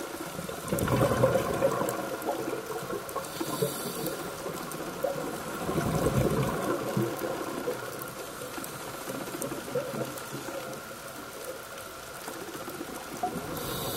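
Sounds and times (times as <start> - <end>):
faint steady hum: 0.0 - 13.9
underwater bubbling: 0.0 - 13.9.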